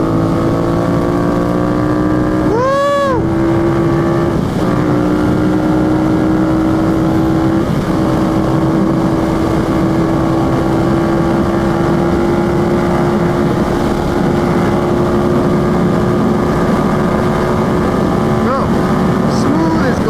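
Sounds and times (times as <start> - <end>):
motorcycle engine cruising: 0.0 - 20.0
wind rushing over microphone: 0.0 - 20.0.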